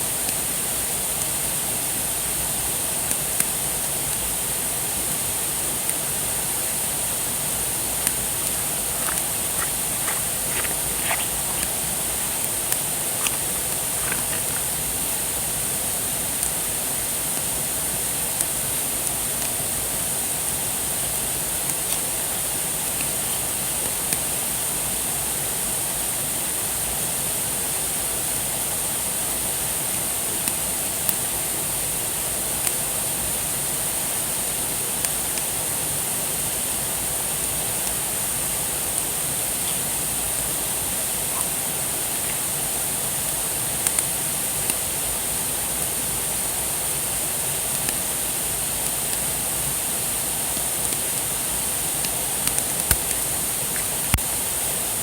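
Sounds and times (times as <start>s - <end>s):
steady high hiss: 0.0s - 22.7s, 33.1s - 55.0s.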